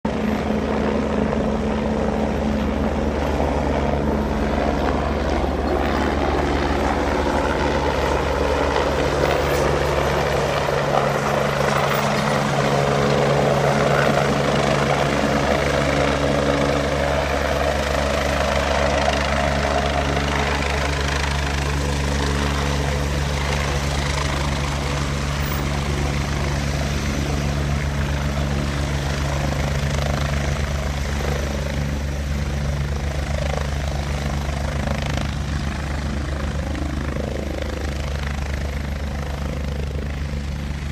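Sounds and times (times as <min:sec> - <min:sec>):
large engine running steadily: 0:00.1 - 0:40.9.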